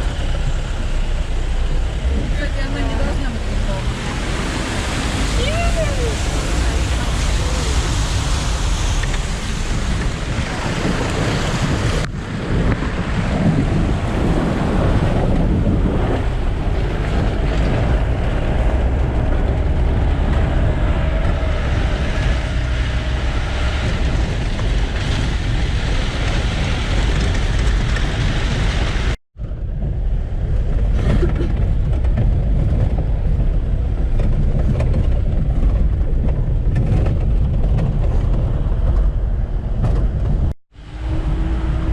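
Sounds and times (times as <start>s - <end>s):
jeep engine: 0.0s - 41.9s
vehicle rattling: 0.0s - 41.9s
wind buffeting microphone: 0.0s - 41.9s.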